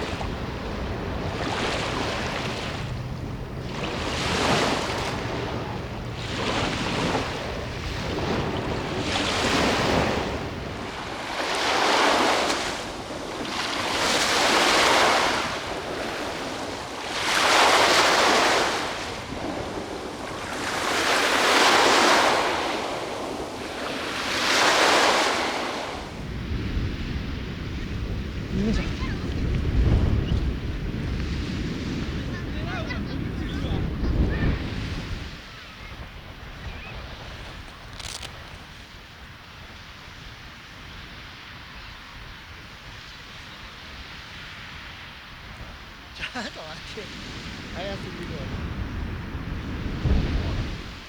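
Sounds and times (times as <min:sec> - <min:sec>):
wind buffeting microphone: 0:00.0 - 0:46.1, 0:46.9 - 0:51.0
sea waves breaking on shore: 0:00.0 - 0:51.0.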